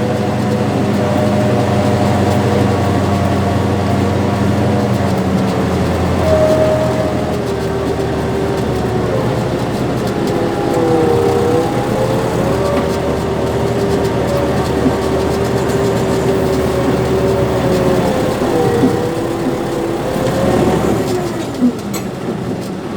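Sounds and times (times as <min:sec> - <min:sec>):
whine varying in pitch: 0:00.0 - 0:22.0
tractor engine running: 0:00.0 - 0:22.9.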